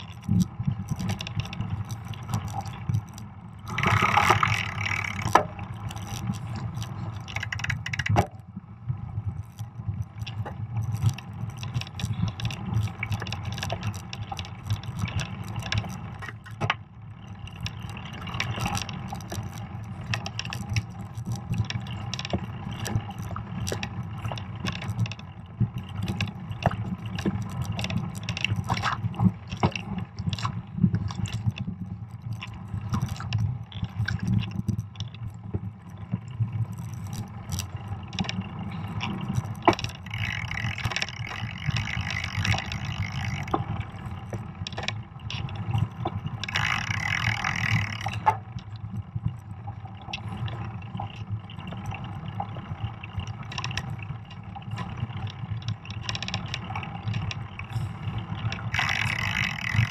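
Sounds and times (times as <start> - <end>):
bike chain rattling and clicking: 0.0 - 8.5, 9.2 - 59.9
bike tyres rumbling on snow: 0.0 - 59.9.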